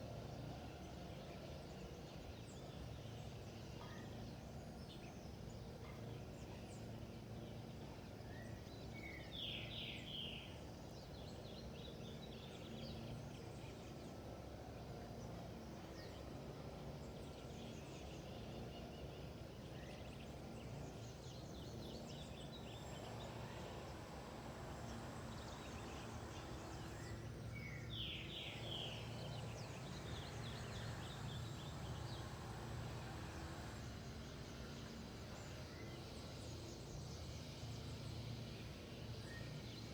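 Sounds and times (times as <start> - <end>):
faint bird chirping: 1.4 - 39.9.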